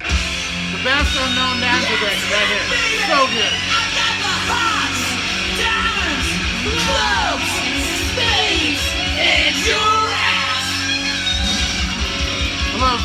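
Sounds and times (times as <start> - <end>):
hard rock song on vinyl: 0.0 - 13.0.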